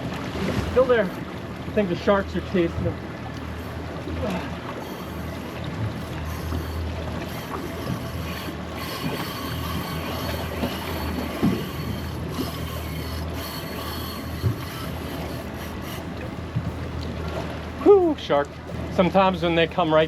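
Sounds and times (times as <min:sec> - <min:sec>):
steady low hum: 0:00.0 - 0:20.0
water noise: 0:00.0 - 0:20.0
wind: 0:00.0 - 0:20.0.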